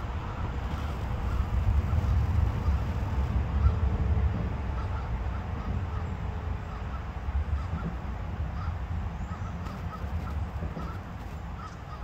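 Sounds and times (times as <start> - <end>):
steady low rumble: 0.0 - 12.0
birds calling: 0.1 - 3.9, 4.6 - 12.0.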